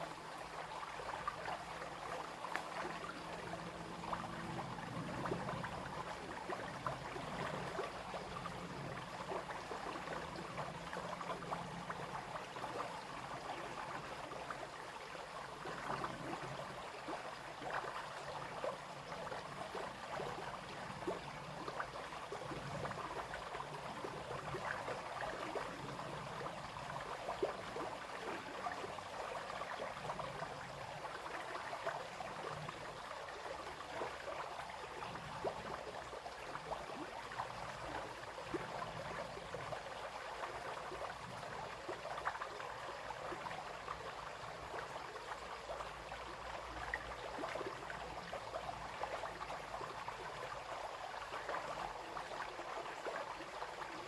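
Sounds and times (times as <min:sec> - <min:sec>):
brook water splashing and trickling: 0:00.0 - 0:54.0.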